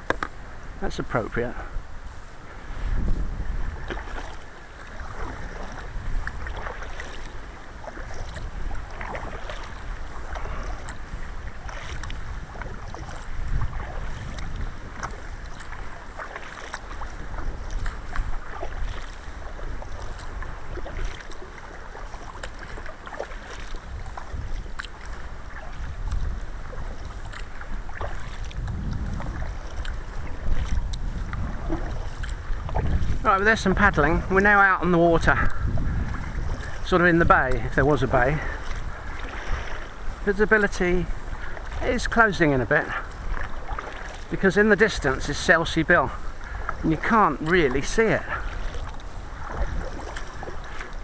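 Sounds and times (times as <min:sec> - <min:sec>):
paddle splashes: 0:00.0 - 0:51.0
water sloshing against hull: 0:00.0 - 0:51.0
wind rumbling on microphone: 0:00.0 - 0:51.0.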